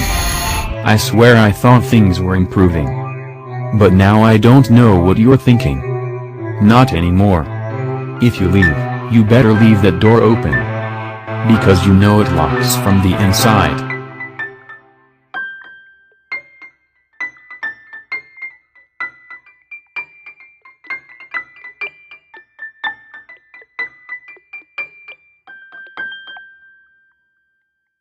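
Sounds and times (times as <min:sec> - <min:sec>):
keyboard high melody: 0:00.0 - 0:27.1.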